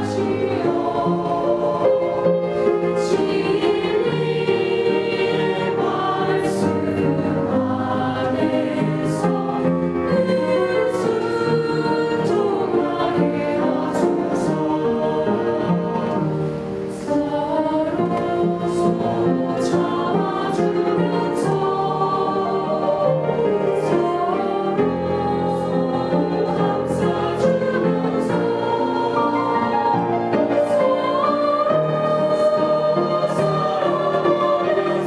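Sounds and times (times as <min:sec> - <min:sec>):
church choir singing a hymn: 0:00.0 - 0:35.0.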